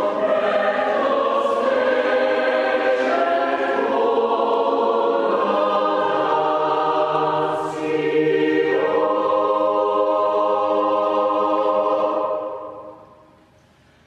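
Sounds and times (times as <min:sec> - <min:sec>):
choir singing held chords: 0:00.0 - 0:13.4.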